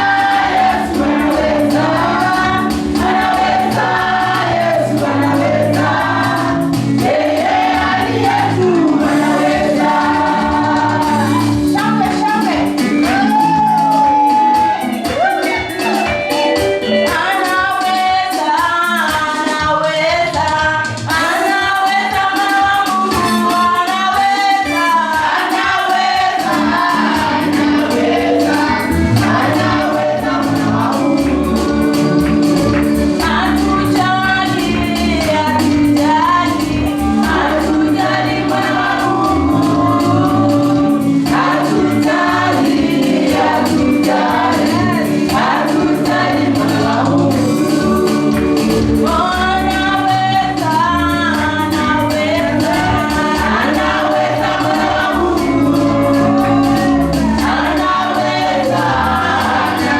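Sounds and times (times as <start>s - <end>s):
choir singing gospel music: 0.0s - 59.9s
instrumental accompaniment with beat: 0.0s - 59.9s.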